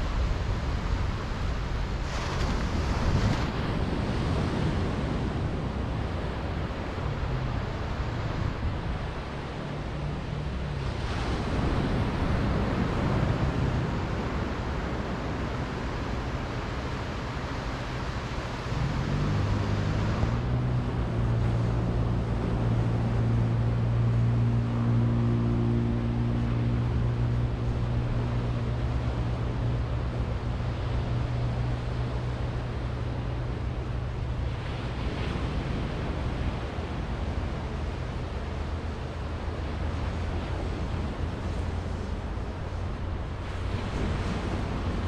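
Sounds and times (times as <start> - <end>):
low engine hum: 0.0 - 45.0
waves washing up a beach: 0.0 - 45.0.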